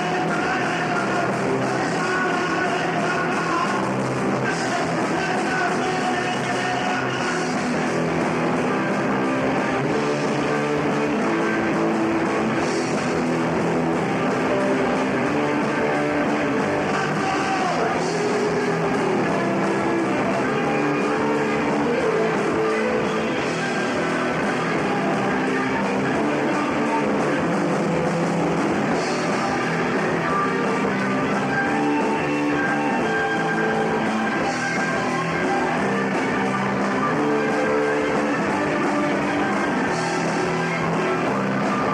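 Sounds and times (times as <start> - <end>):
punk rock band playing live: 0.0 - 41.9.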